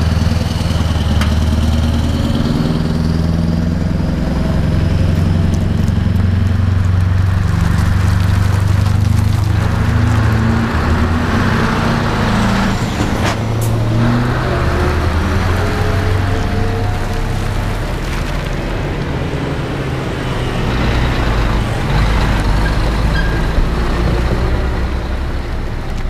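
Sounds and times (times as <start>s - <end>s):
diesel truck engines droning: 0.0s - 26.0s.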